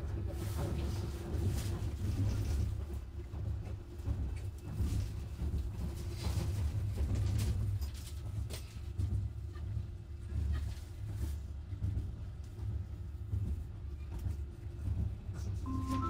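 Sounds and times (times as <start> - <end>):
monorail car rumbling: 0.0 - 16.0.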